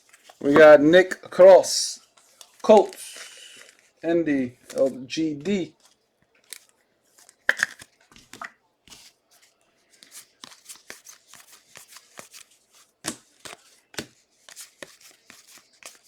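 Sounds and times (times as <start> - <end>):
trading cards being handled: 0.0 - 16.0.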